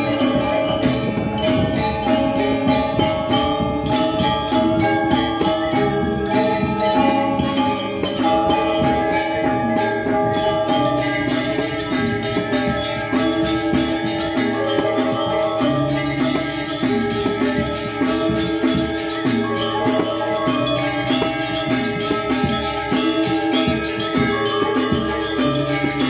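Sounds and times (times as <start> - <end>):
gamelan metallophones ringing: 0.0 - 26.0.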